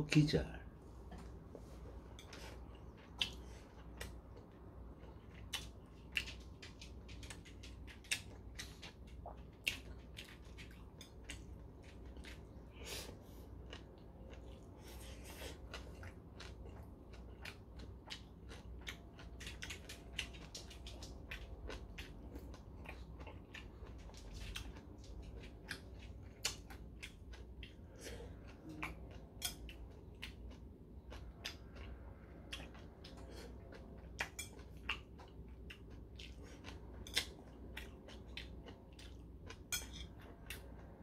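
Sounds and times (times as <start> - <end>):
person chewing: 1.0 - 41.0.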